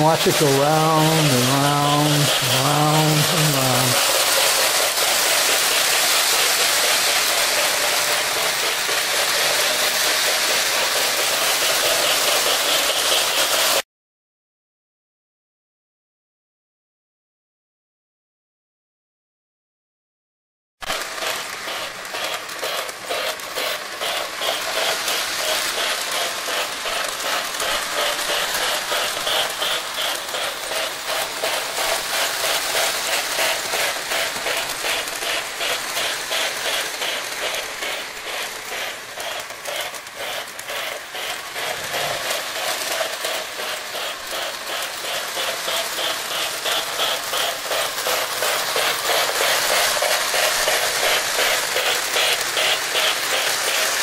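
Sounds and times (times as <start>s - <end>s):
model train wheels clicking on track: 0.0s - 13.8s, 20.8s - 54.0s.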